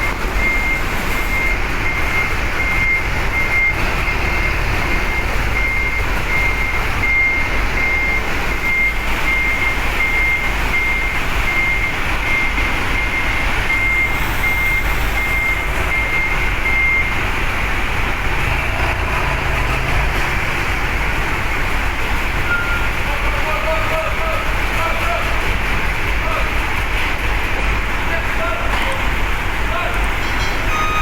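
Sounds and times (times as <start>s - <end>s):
truck reversing alarm beeping: 0.0s - 26.6s, 27.7s - 31.0s
truck engines rumbling: 0.0s - 31.0s.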